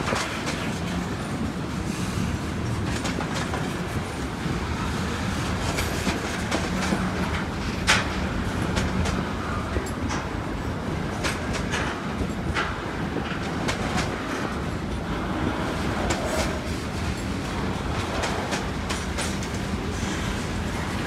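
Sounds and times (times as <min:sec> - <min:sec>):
wheels clicking over rail joints: 0:00.0 - 0:01.5, 0:05.5 - 0:21.0
freight train rumbling past: 0:00.0 - 0:21.0.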